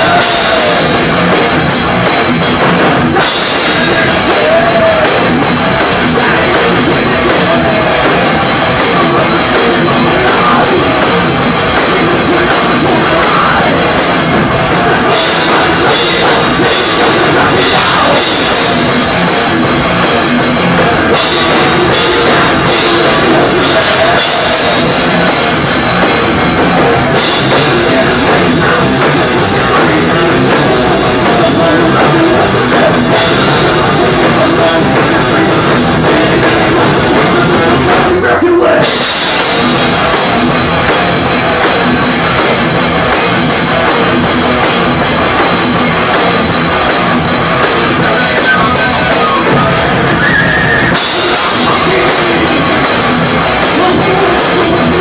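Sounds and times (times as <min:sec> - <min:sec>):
drum kit: 0:00.0 - 0:55.0
thrash metal band playing: 0:00.0 - 0:55.0.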